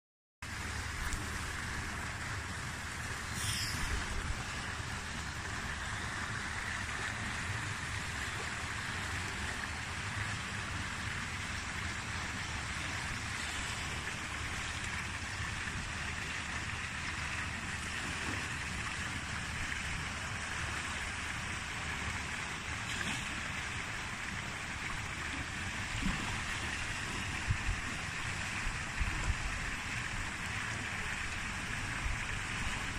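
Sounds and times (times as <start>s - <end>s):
running water rushing: 0.4s - 32.9s.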